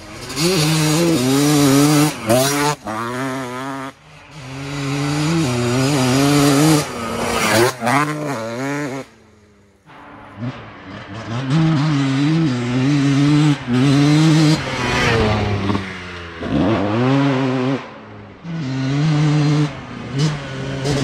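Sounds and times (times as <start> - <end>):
two-stroke engine revving hard: 0.0 - 9.3, 10.4 - 21.0.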